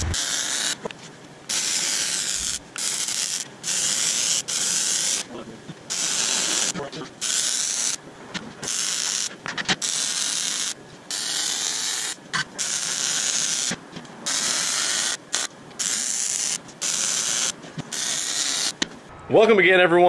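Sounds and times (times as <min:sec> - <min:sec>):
hissing rattling shop tool: 0:00.0 - 0:00.9, 0:01.5 - 0:19.1.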